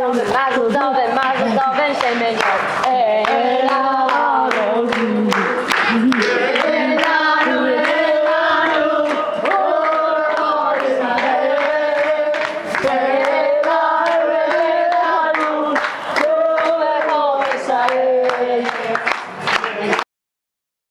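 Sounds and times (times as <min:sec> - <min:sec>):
group singing in unison: 0:00.0 - 0:20.0
people clapping: 0:00.0 - 0:20.1.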